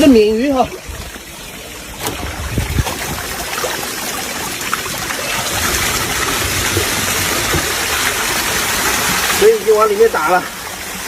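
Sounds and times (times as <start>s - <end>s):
seawater rushing in: 1.8s - 11.0s.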